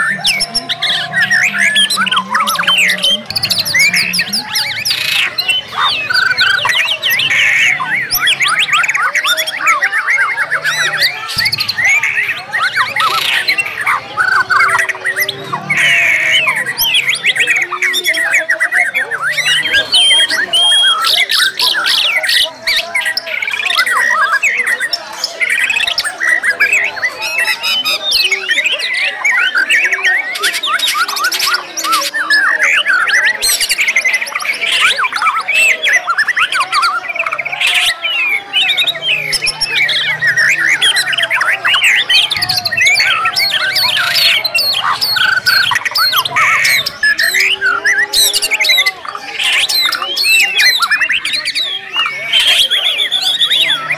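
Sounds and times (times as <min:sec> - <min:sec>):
birds singing over one another: 0:00.0 - 0:53.9.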